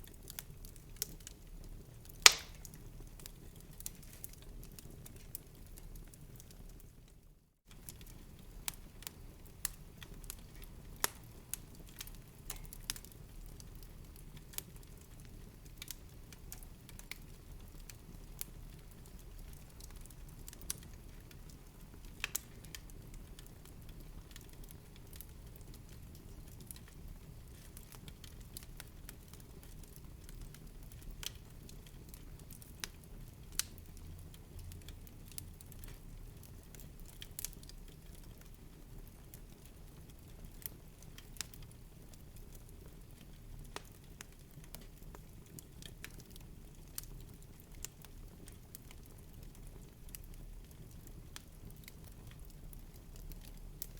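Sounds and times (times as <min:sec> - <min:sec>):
fire crackling in fireplace: 0:00.0 - 0:53.9.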